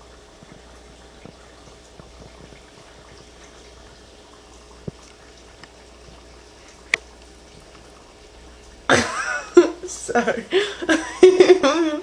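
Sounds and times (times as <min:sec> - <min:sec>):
water bubbling: 0:00.0 - 0:10.2.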